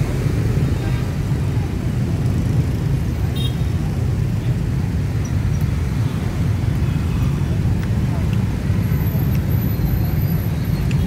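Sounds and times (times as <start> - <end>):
motorbike and scooter traffic: 0.0 - 11.0.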